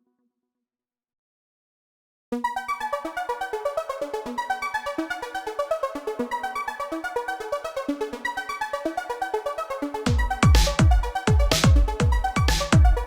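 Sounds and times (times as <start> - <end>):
electronic music with synthesizer: 2.4 - 13.0.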